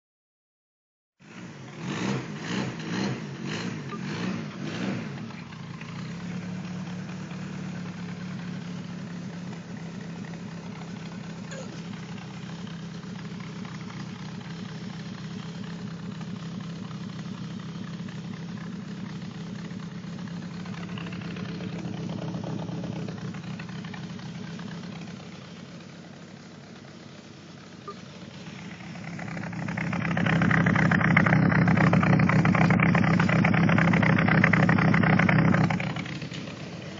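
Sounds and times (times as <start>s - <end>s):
car engine revving and idling: 1.2s - 36.9s.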